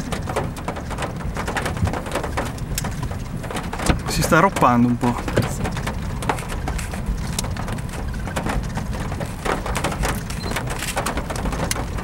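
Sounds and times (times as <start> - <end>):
low wind rumble: 0.0 - 12.0
raindrops pattering: 0.0 - 12.0.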